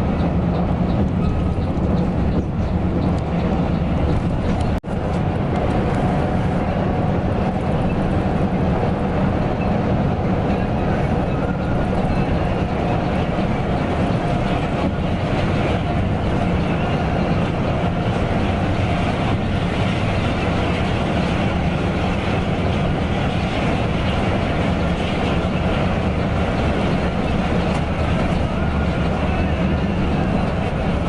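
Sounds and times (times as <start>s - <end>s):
coach engine drone: 0.0s - 31.0s
road and tyre noise: 0.0s - 31.0s.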